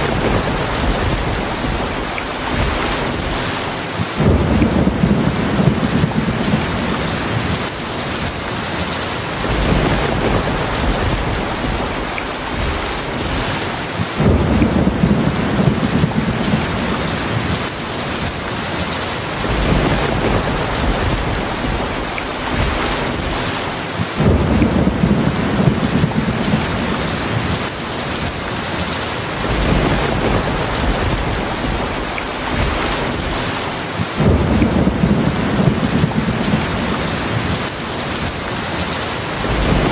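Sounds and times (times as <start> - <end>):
thunder rolling: 0.0 - 18.3, 19.3 - 28.3, 29.3 - 39.9
heavy rain: 0.0 - 39.9.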